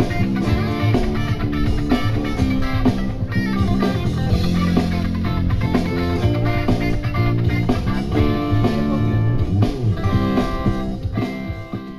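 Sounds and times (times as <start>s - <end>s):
drum kit: 0.0s - 11.9s
electric bass guitar: 0.0s - 11.9s
electric guitars: 0.0s - 11.9s.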